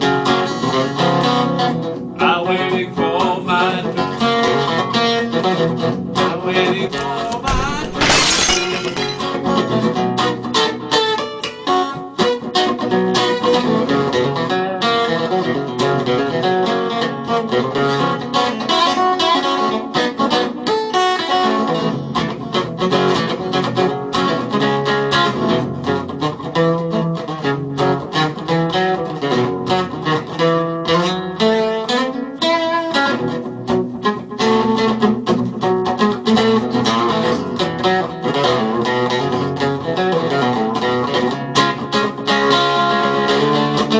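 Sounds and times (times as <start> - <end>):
acoustic guitar blues: 0.0 - 43.9.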